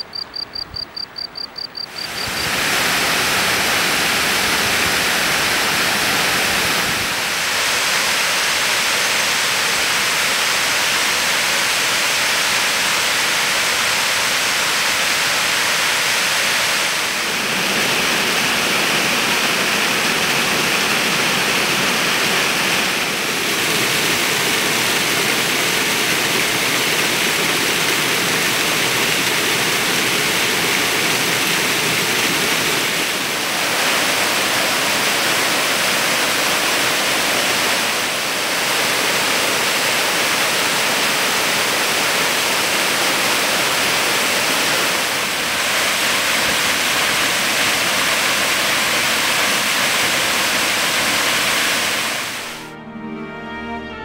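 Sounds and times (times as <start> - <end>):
waterfall rushing over rocks: 1.9 - 52.6.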